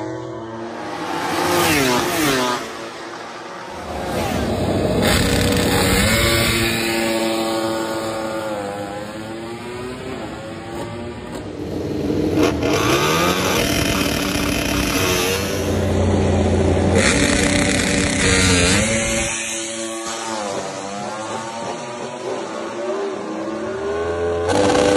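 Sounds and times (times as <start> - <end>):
race bike engines revving: 0.0 - 24.9.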